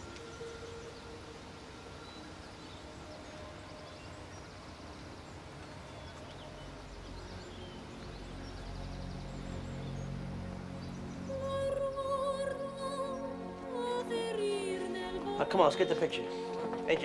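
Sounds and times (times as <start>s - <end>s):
faint bird chirps: 0.0s - 14.3s
low sustained music: 0.0s - 17.0s
steady low hiss: 0.0s - 17.0s.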